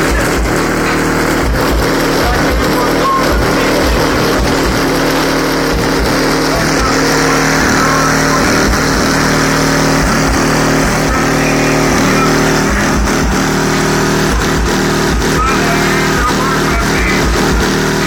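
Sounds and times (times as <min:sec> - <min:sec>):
music with deep bass hits: 0:00.0 - 0:18.0.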